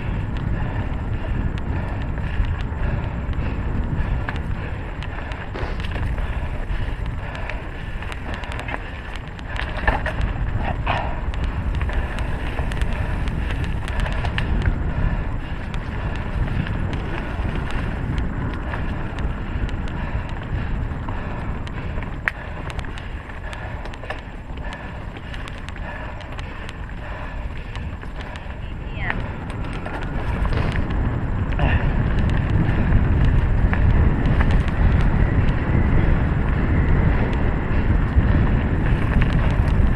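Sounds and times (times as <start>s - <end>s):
bike clicks and rattles: 0.0s - 39.9s
bike tyre noise: 0.0s - 39.9s
wind rumbling on microphone: 0.0s - 39.9s.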